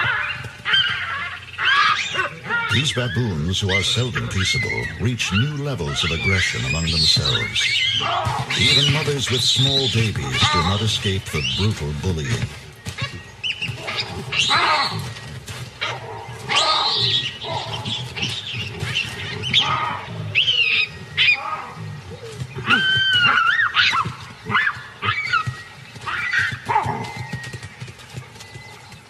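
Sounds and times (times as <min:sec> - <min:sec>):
baboons screaming: 0:00.0 - 0:27.5.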